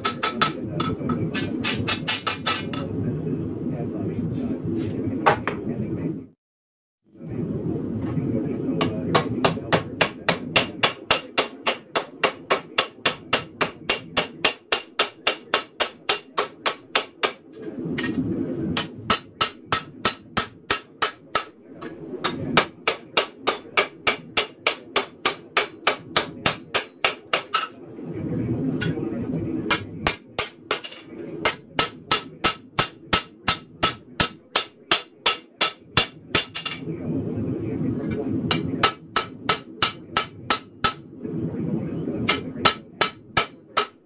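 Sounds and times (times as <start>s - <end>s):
steady rushing noise: 7.1s - 44.0s.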